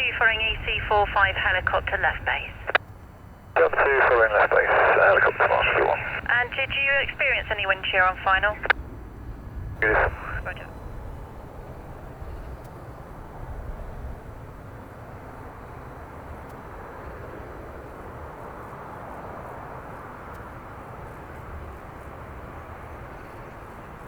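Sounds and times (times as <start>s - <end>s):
distant turboprop aircraft engines: 0.0s - 24.0s.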